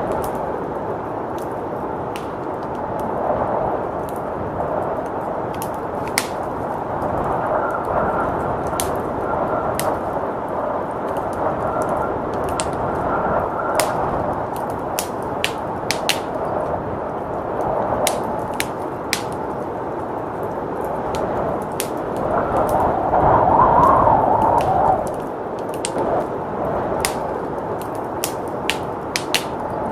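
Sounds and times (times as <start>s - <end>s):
blizzard wind rushing: 0.0s - 29.9s
wood fire crackling and popping: 0.0s - 29.9s.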